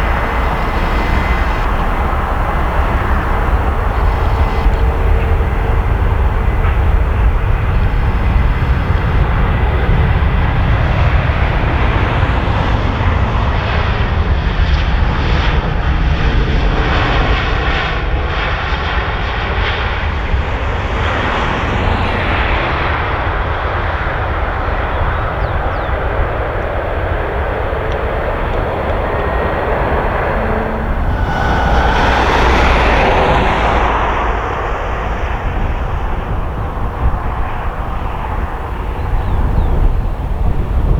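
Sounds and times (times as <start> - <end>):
jet engines roaring: 0.0 - 40.8.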